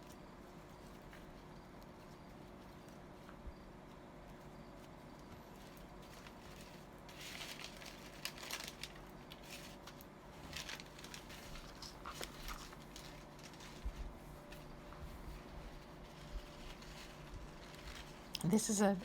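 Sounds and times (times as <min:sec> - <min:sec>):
faint steady hum: 0:00.0 - 0:19.0
paper rustling: 0:00.0 - 0:19.0.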